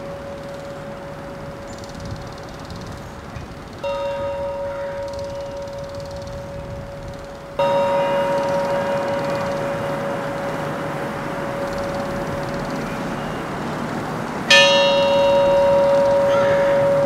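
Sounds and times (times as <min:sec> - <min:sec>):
bell-like tone ringing: 0:00.0 - 0:03.0, 0:03.8 - 0:17.0
steady noisy hiss: 0:00.0 - 0:17.0.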